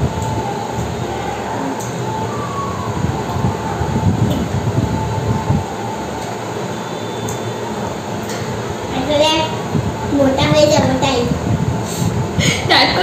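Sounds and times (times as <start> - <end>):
faint constant hum: 0.0 - 13.0
steady rumbling background noise: 0.0 - 13.0.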